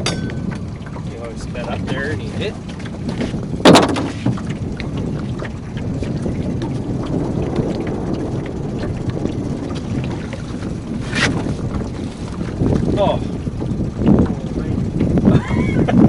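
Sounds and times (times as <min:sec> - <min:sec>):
boat motor rumbling: 0:00.0 - 0:16.0
wind buffeting microphone: 0:00.0 - 0:16.0.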